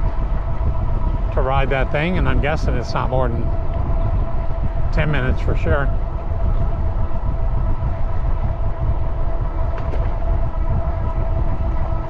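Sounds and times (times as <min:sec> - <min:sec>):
faint steady whine: 0:00.0 - 0:12.0
wind rumbling on microphone: 0:00.0 - 0:12.0.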